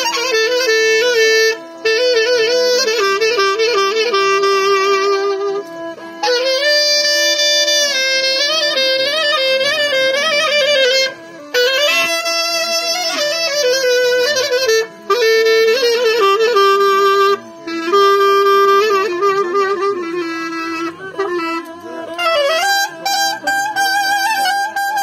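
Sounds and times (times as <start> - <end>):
held drone note: 0.0 - 25.0
reed wind instrument melody: 0.0 - 25.0.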